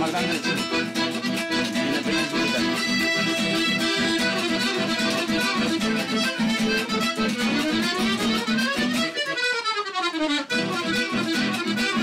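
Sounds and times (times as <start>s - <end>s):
piano accordion playing lively music: 0.0s - 12.0s
strummed acoustic guitar: 0.0s - 12.0s.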